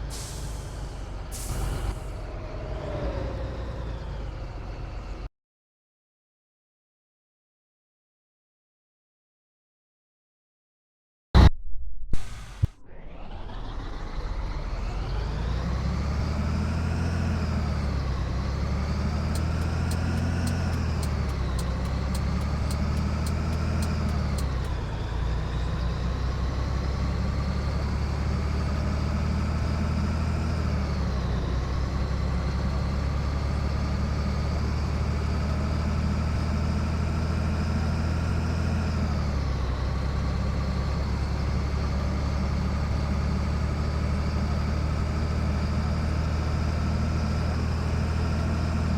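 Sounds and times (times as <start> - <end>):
diesel truck engine accelerating: 0.0 - 5.3, 12.8 - 48.9.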